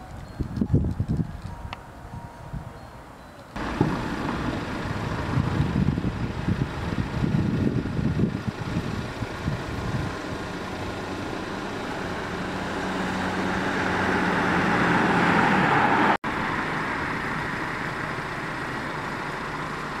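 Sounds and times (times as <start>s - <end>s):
steady traffic hum: 0.0s - 20.0s
vehicle engine and tyre noise: 0.0s - 20.0s.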